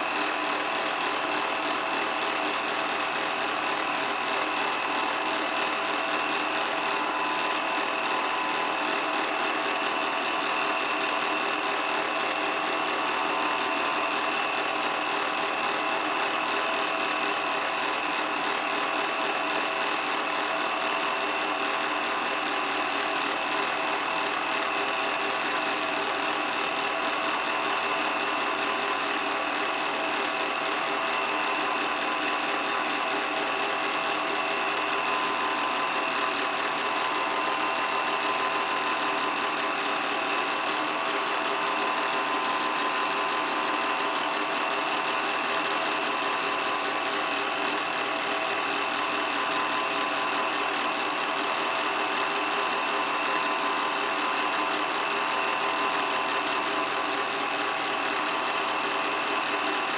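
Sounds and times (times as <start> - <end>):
film projector whirring and clattering: 0.0 - 59.9.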